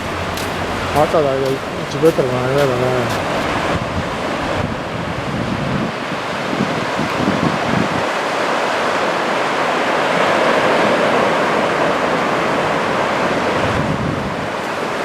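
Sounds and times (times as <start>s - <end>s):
ocean surf breaking on beach: 0.0s - 15.0s.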